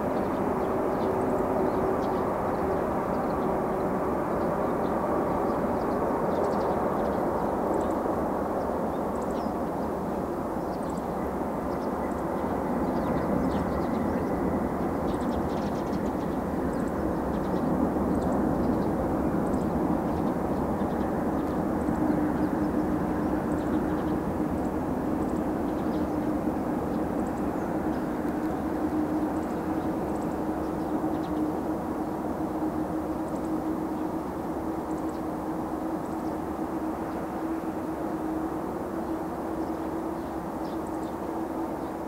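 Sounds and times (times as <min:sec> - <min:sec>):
distant jet engines rumbling: 0:00.0 - 0:42.0
steady hum: 0:00.0 - 0:42.0.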